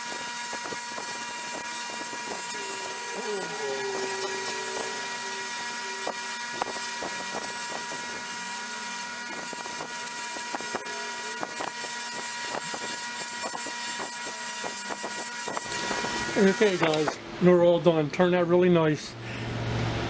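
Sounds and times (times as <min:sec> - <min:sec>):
electric motor whining: 0:00.0 - 0:17.2.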